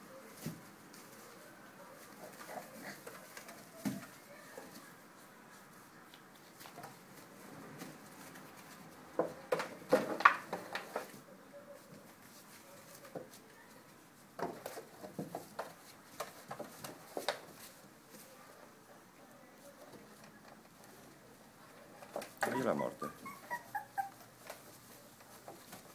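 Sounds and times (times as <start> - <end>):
puppies scuffling and playing: 0.0 - 25.9.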